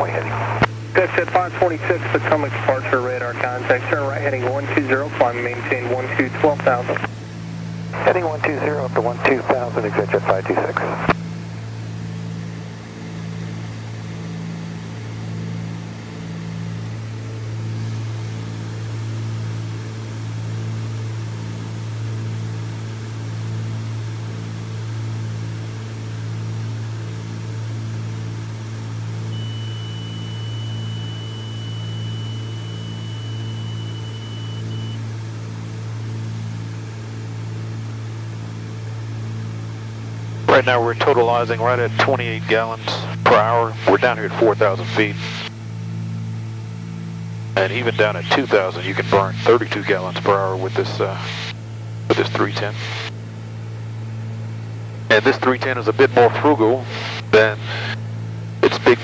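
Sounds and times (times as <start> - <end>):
aircraft engines droning in cabin: 0.0 - 59.0.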